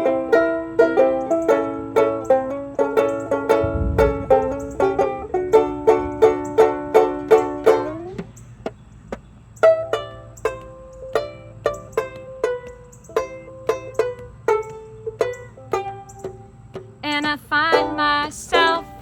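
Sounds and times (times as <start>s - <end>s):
banjo-ukulele plucking: 0.0s - 19.0s.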